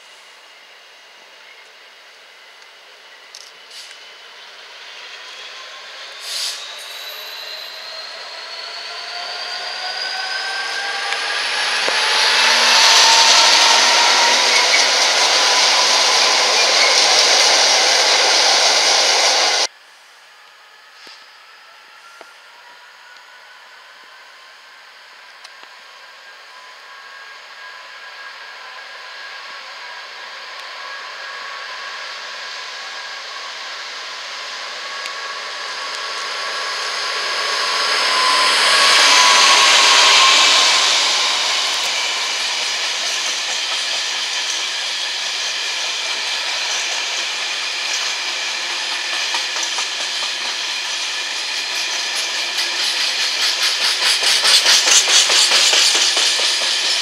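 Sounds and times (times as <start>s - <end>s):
diesel locomotive passing: 0.1s - 19.7s, 20.6s - 57.0s.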